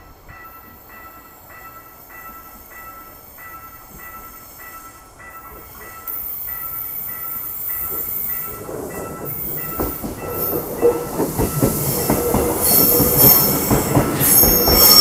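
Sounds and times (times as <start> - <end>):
train rumble: 0.0 - 15.0
level-crossing warning bell ringing: 0.3 - 15.0.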